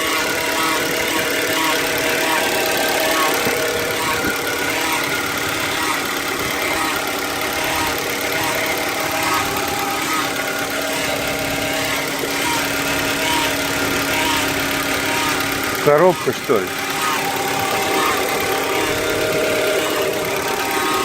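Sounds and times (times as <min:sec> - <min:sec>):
car engine running: 0:00.0 - 0:21.0
steady whining note: 0:00.0 - 0:21.0.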